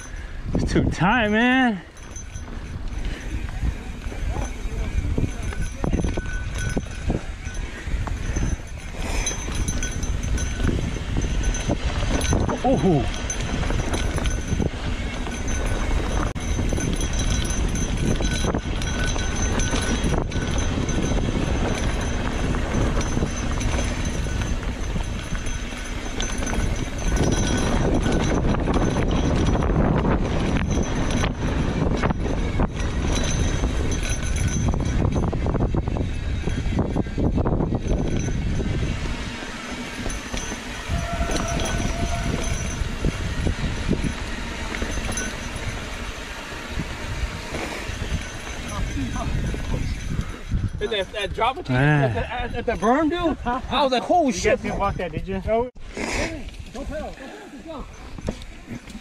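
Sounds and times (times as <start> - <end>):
bike frame rattling: 0.0 - 59.0
bike tyres rumbling over dirt: 2.0 - 53.1.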